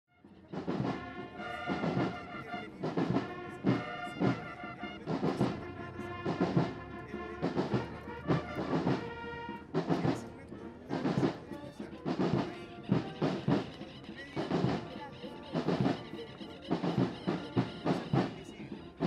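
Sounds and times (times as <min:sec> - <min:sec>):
military band playing a march: 0:00.1 - 0:19.0
drums beating: 0:00.2 - 0:19.0.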